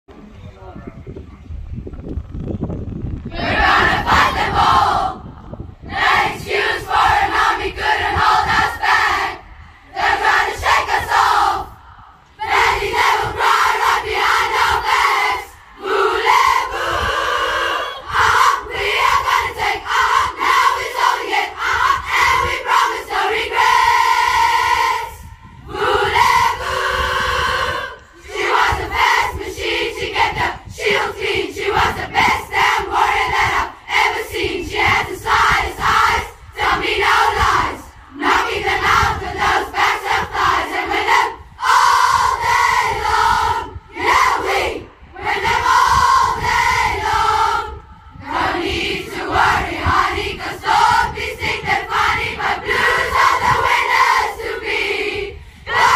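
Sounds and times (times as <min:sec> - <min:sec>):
crowd chanting in unison: 0:03.3 - 0:55.9.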